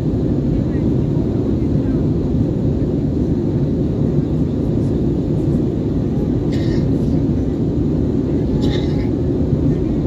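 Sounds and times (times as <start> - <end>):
airplane cabin engine drone: 0.0 - 10.0.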